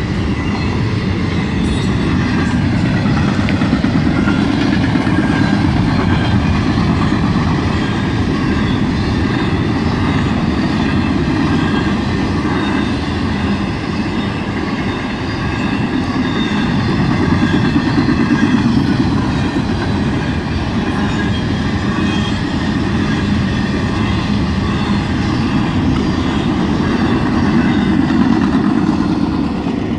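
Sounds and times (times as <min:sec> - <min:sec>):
freight train cars rolling past: 0:00.0 - 0:29.9.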